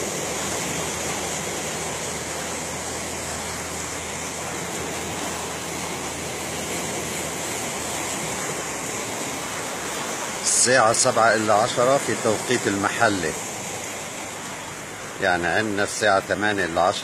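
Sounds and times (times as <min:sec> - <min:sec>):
low steady hum: 0:00.0 - 0:17.0
sea water rushing: 0:00.0 - 0:17.0.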